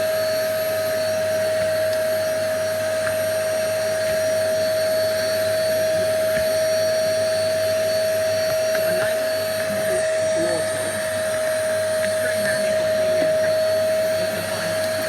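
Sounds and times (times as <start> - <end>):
vacuum motor whine: 0.0 - 15.0.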